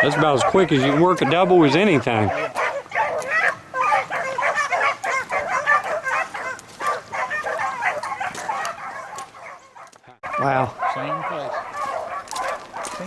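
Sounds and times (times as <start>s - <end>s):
pack of hounds baying: 0.0s - 13.0s.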